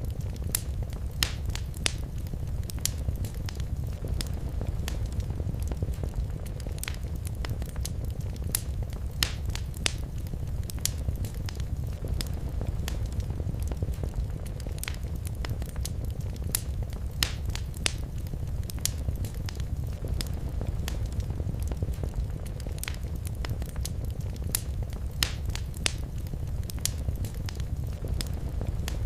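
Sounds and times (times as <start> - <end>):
fire snaps and pops: 0.0 - 29.0
low rumble of flame: 0.0 - 29.0.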